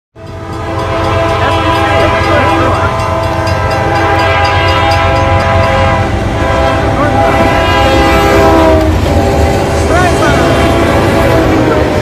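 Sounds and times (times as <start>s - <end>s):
locomotive horns blowing: 0.2s - 12.0s
passing trains rumbling: 0.2s - 12.0s.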